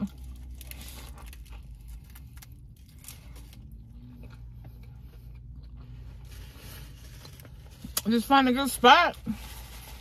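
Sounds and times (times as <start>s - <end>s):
person chewing food: 0.0s - 8.0s
low steady hum: 0.0s - 10.0s.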